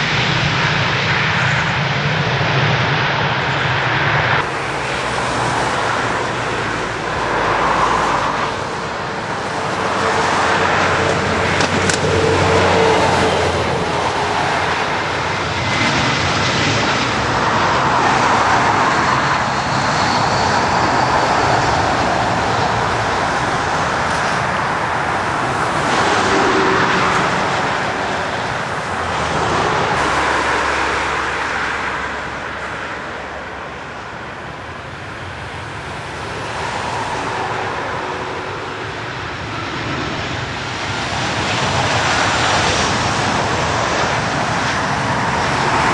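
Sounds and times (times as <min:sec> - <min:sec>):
airliner engines rushing: 0:00.0 - 0:45.9.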